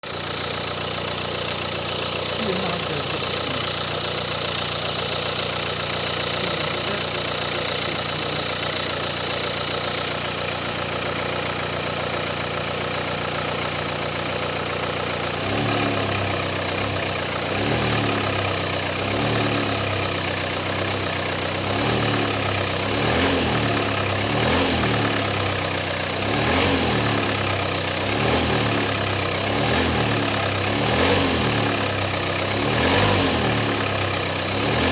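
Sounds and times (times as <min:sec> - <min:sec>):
car engine idling with knocking: 0:00.0 - 0:34.9.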